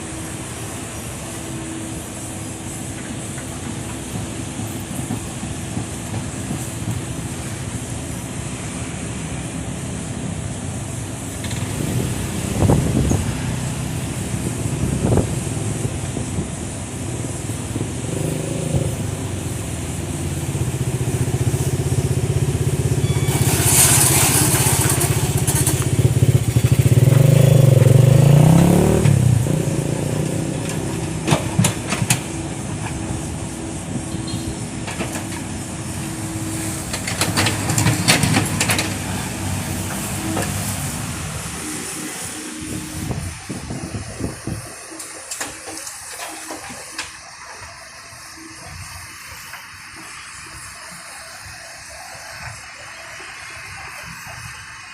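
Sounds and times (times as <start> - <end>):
excavator diesel engine under load: 0.0 - 54.9
hissing rush: 0.0 - 54.9.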